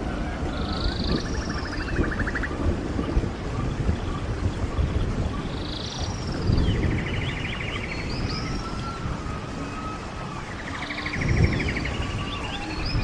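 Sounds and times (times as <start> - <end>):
running stream: 0.0 - 13.0
bird singing whistles and trills: 0.5 - 13.0.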